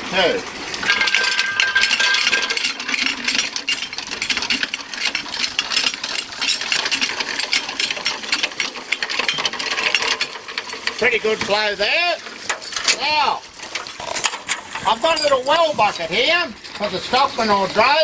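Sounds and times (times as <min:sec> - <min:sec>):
water pump chain rattling: 0:00.2 - 0:18.0.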